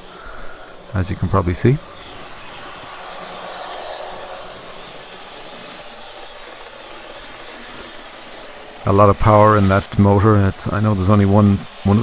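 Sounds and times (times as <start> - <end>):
electric train traction sounds: 0.0 - 12.0
model train wheels on track: 0.0 - 12.0.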